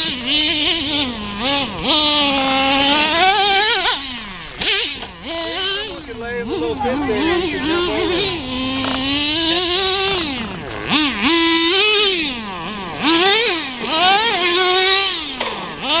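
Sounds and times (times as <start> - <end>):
toy car motor revving: 0.0 - 16.0.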